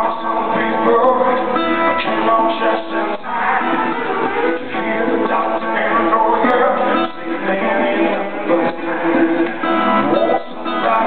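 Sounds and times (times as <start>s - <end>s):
drums: 0.0s - 11.0s
electric guitar: 0.0s - 11.0s
live band music: 0.0s - 11.0s
person singing: 0.0s - 11.0s.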